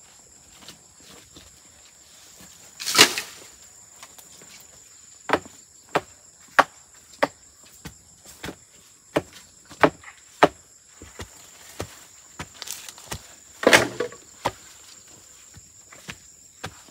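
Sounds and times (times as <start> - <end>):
high insect buzz: 0.0 - 16.9.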